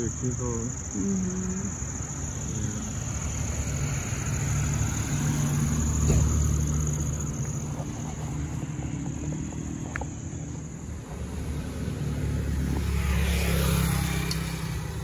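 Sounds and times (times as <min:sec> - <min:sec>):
car engine and road noise: 0:00.0 - 0:15.0
crickets chirping: 0:00.0 - 0:15.0.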